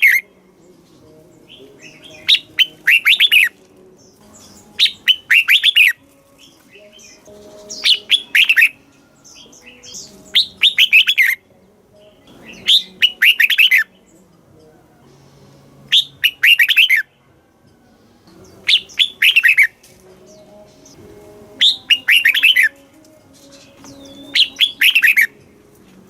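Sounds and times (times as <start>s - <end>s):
bulbul singing whistled notes: 0.0s - 17.2s, 18.3s - 25.4s.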